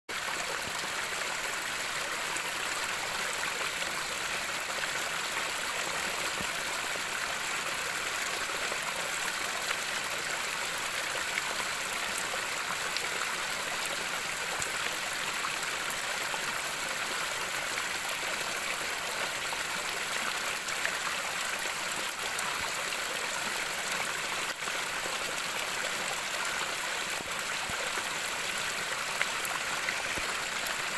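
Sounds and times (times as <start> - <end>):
stream tumbling over rocks: 0.1 - 30.9.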